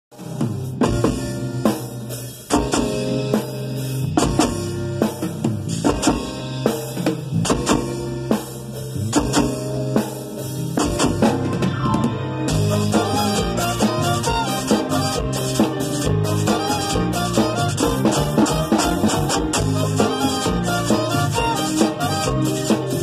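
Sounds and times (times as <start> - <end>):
drum kit hits: 0.1 - 23.0
live band playing: 0.1 - 23.0.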